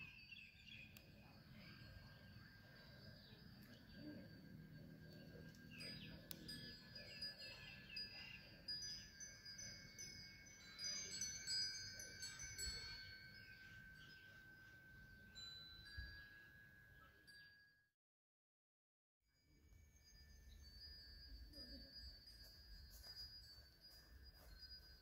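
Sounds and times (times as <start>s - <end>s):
wind chimes tinkling: 0.0s - 17.9s, 19.4s - 25.0s.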